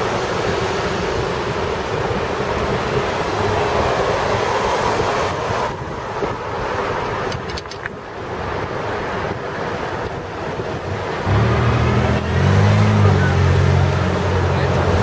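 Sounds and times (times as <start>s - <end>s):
passing car traffic: 0.0s - 15.0s
wind rushing over microphone: 0.0s - 15.0s.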